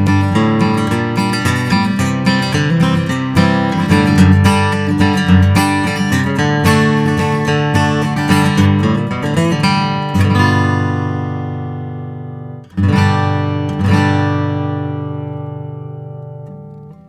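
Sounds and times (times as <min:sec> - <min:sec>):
acoustic guitar picked and strummed: 0:00.0 - 0:17.0.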